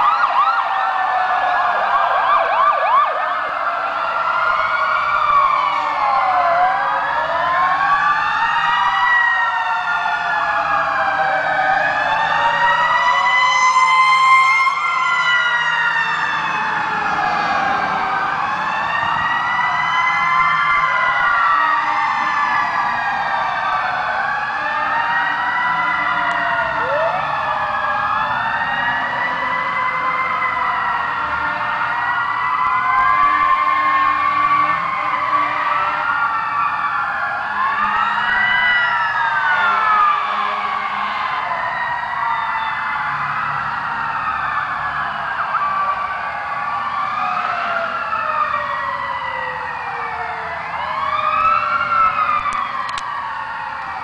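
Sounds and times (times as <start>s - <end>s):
fire truck sirens wailing: 0.0s - 54.0s.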